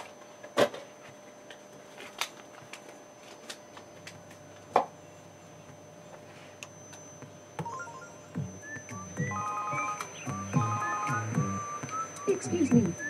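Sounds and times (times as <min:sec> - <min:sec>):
low steady hum: 0:01.5 - 0:13.0.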